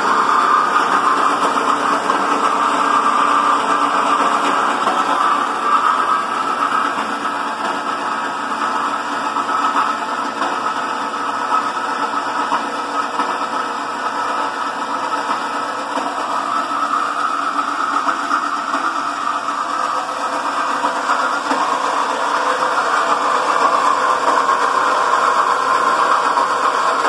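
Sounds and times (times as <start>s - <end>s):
band saw cutting metal: 0.0s - 27.0s.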